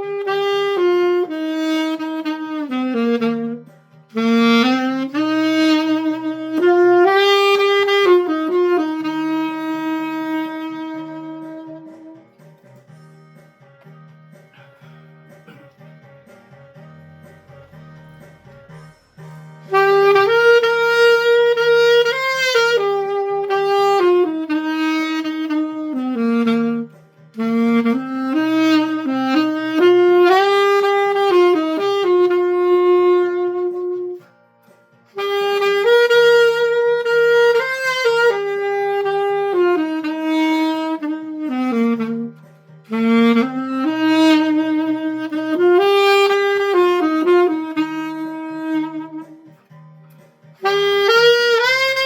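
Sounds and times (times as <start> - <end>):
alto saxophone slow melody: 0.0 - 12.6, 17.7 - 49.7, 50.6 - 52.0
soft backing accompaniment: 0.0 - 52.0.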